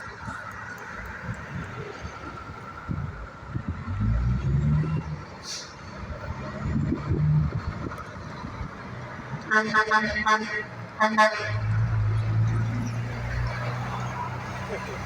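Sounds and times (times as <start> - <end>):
heavy trucks passing: 0.0 - 15.0.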